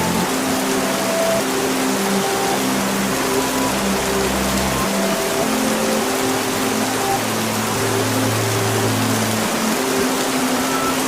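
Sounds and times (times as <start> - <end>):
dense rainfall hiss: 0.0 - 11.0.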